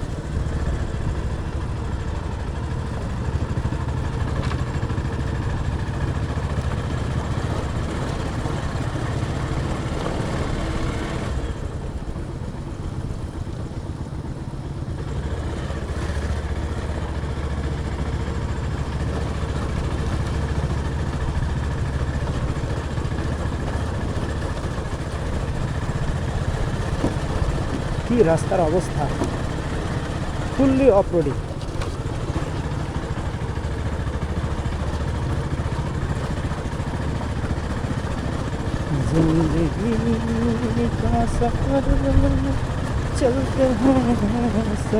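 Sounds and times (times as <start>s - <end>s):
motorcycle engine running: 0.0s - 44.9s
road noise: 0.0s - 44.9s.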